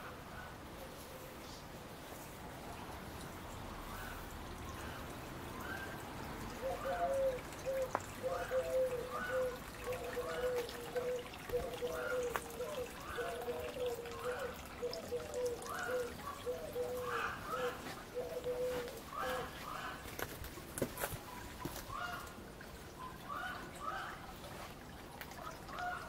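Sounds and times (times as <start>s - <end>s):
water trickling into pond: 0.0s - 26.0s.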